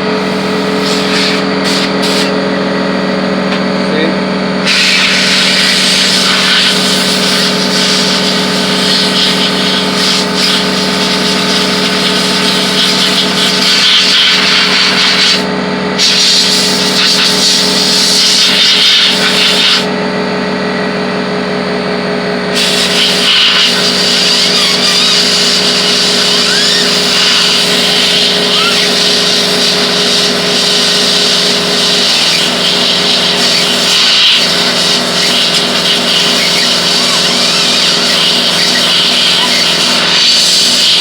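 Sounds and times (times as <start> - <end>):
air jet blasting: 0.0 - 19.9, 22.5 - 41.0
air blower motor humming: 0.0 - 41.0.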